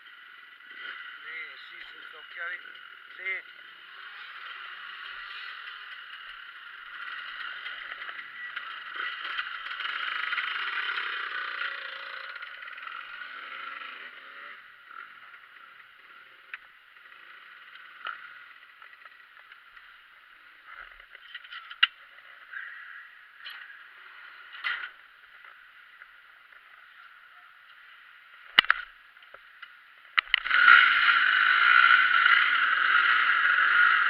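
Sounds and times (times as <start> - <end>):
distant motocross bike engines: 0.0 - 34.0.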